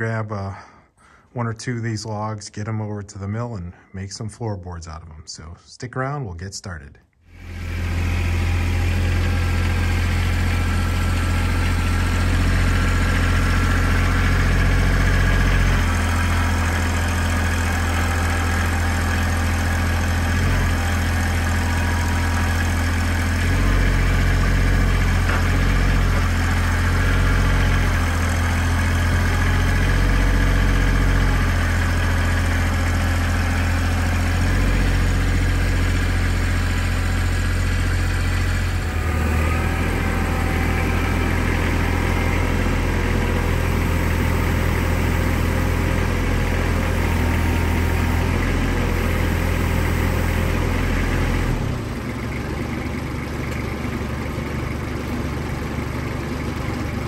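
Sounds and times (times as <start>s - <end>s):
tractor engine running: 7.3s - 57.0s.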